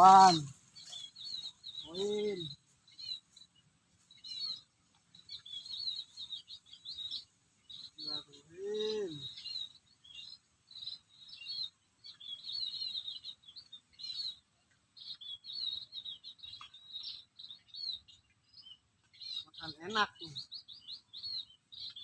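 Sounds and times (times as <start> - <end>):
small birds chirping and twittering: 0.0 - 22.0.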